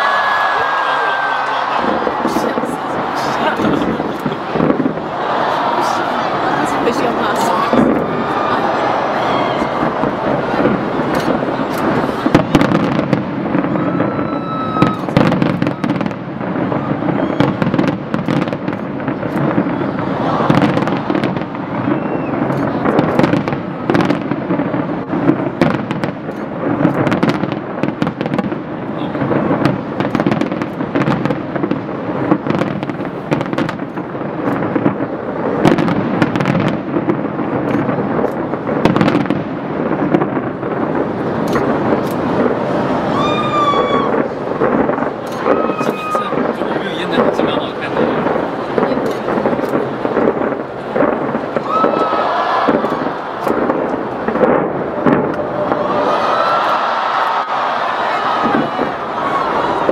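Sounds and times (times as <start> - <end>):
fireworks cracks and bangs: 0.0 - 59.9
rumbling crackle of fireworks: 0.0 - 59.9.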